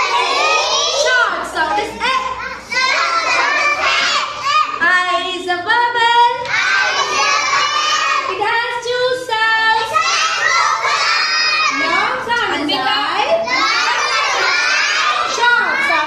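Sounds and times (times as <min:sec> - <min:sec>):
children singing and chanting: 0:00.0 - 0:16.0.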